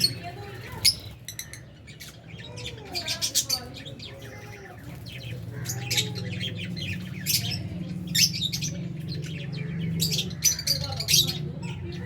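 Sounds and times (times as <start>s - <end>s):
lovebirds shrill chirps and squawks: 0.0s - 12.0s.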